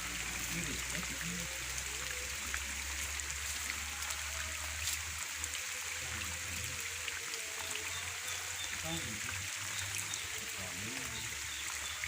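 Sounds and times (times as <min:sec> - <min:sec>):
rain and flowing water: 0:00.0 - 0:12.0.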